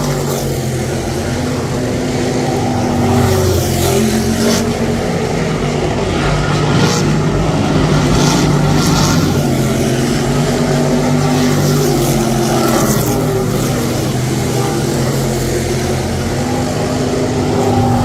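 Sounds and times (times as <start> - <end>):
engines droning: 0.0 - 18.0.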